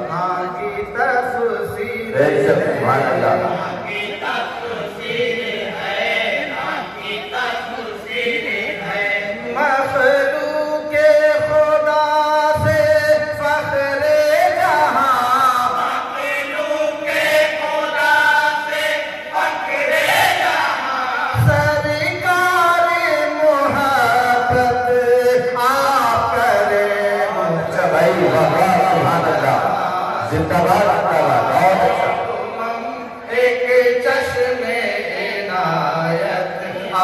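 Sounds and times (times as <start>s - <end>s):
men singing through microphone: 0.0s - 37.0s.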